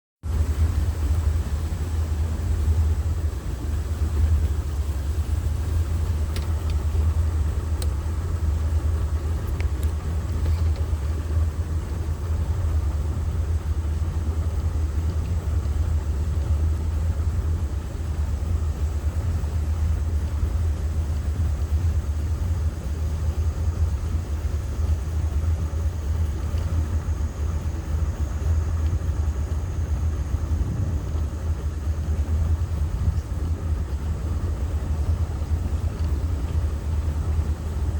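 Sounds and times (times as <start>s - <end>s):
motor boat engine drone: 0.2s - 37.9s.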